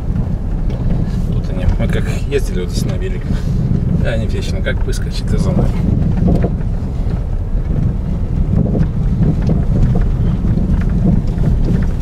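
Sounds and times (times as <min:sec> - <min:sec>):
stones clicking under tyres: 0:00.0 - 0:12.0
tyres and engine rumbling: 0:00.0 - 0:12.0.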